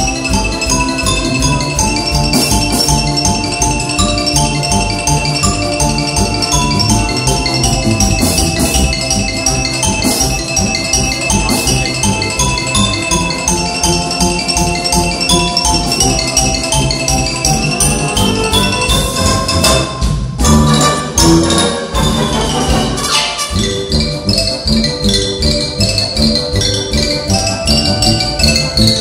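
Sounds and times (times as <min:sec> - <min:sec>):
wind band accompanying: 0:00.0 - 0:29.0
xylophone fast runs: 0:00.0 - 0:29.0.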